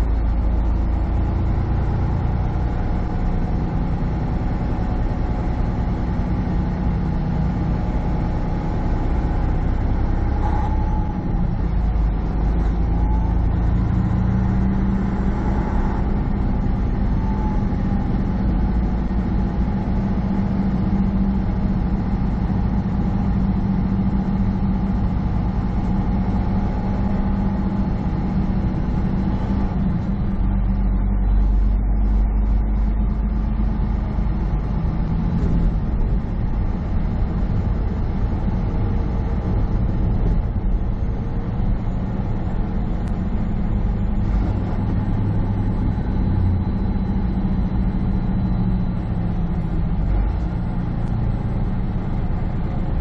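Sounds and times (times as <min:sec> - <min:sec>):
diesel truck engine droning: 0:00.0 - 0:53.0
road noise: 0:00.0 - 0:53.0.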